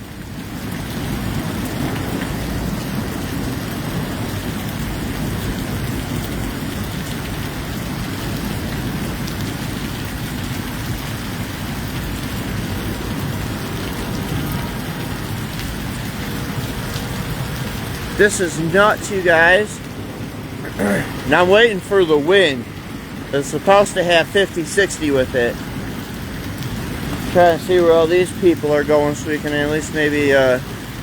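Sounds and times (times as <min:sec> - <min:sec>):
heavy rain and hail falling: 0:00.0 - 0:31.0.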